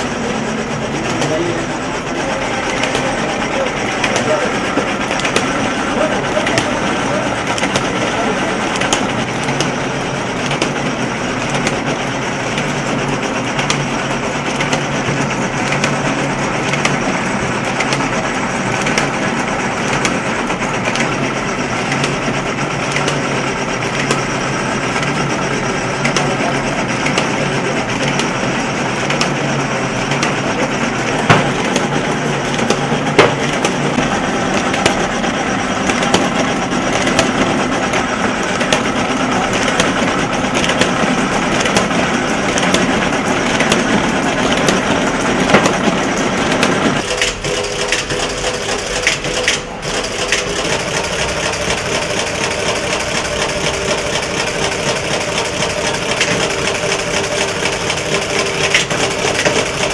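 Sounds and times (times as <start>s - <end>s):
printing machines clattering: 0.0s - 59.9s
sharp machine clacks: 0.0s - 59.9s.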